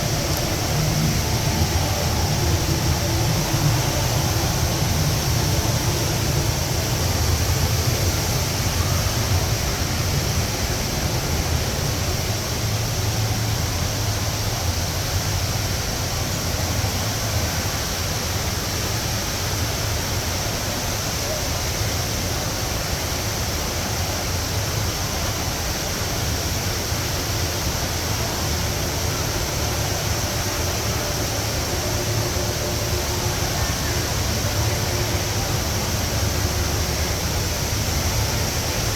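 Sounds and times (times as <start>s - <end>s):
indoor waterfall pouring: 0.0s - 38.9s.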